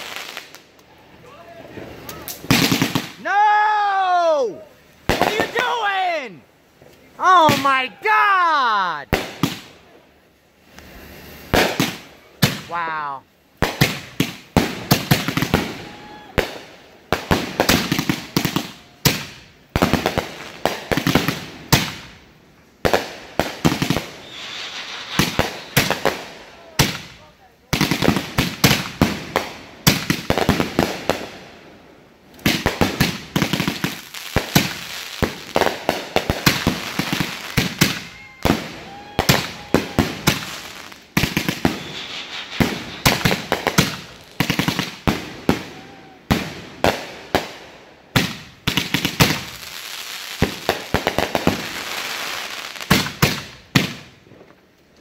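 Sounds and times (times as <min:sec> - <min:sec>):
fireworks bangs and pops: 0:00.0 - 0:00.9, 0:01.7 - 0:03.3, 0:05.0 - 0:06.0, 0:07.3 - 0:07.9, 0:09.0 - 0:09.8, 0:10.8 - 0:12.8, 0:13.6 - 0:22.2, 0:22.8 - 0:31.5, 0:32.3 - 0:54.6
fireworks crackling and hissing: 0:00.0 - 0:55.0.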